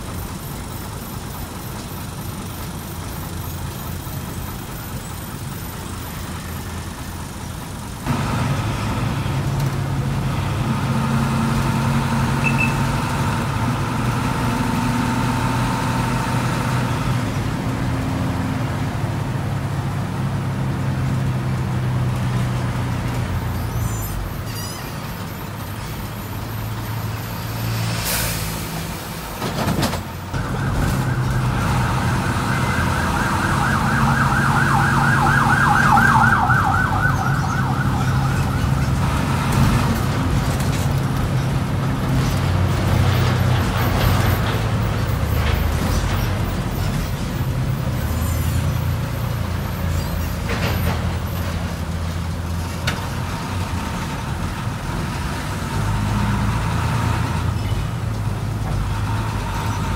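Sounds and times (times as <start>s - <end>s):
bus diesel engine drone: 0.0s - 59.9s
road and traffic noise: 0.0s - 59.9s.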